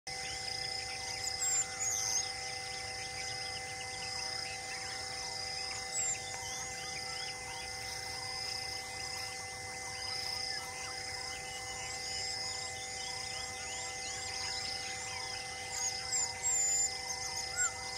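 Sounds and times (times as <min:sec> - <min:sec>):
bird chirps: 0:00.1 - 0:17.9
insects chirring: 0:00.1 - 0:17.9.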